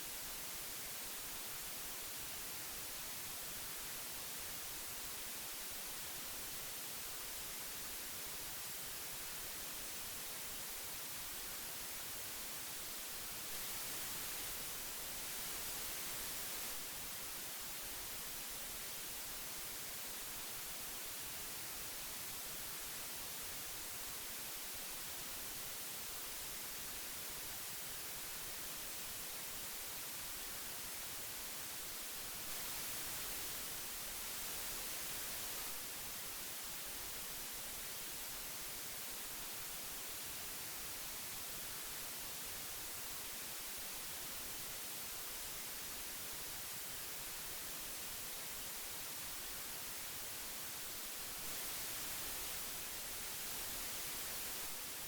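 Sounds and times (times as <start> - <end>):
magnetic tape hiss: 0.0 - 55.0.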